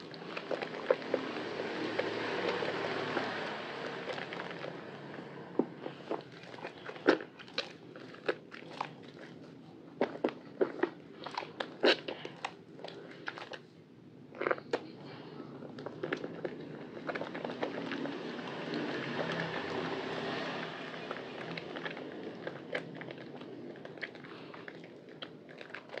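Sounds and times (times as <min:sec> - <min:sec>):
lather squishing: 0:00.0 - 0:13.6, 0:14.4 - 0:26.0
wet soap crackles and squelches: 0:00.0 - 0:26.0.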